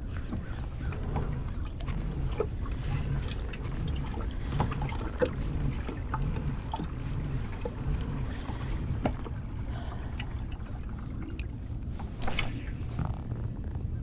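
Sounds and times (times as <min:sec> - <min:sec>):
pedal propeller whirring: 0:00.0 - 0:14.0
ticks against hull: 0:00.0 - 0:14.0
water splashes: 0:00.0 - 0:14.0.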